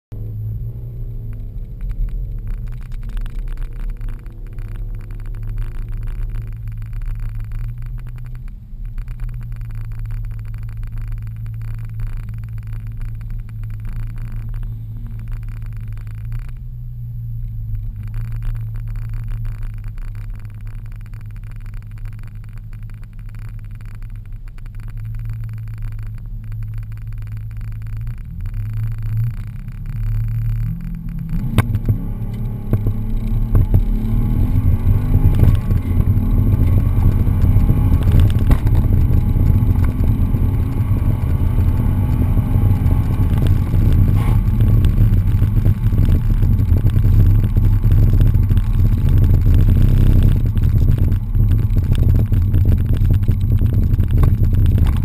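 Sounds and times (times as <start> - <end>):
car engine idling from inside cabin: 0.2 - 55.0.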